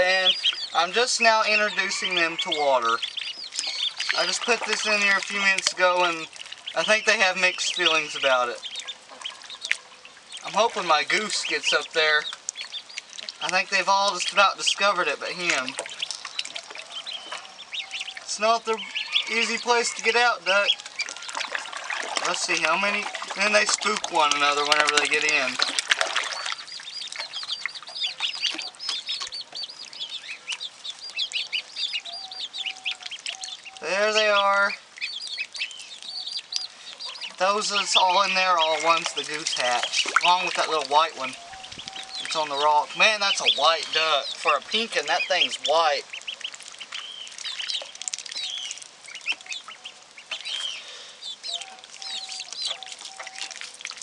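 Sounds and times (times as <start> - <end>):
ducklings peeping: 0.0 - 54.0
water splashing: 0.0 - 54.0.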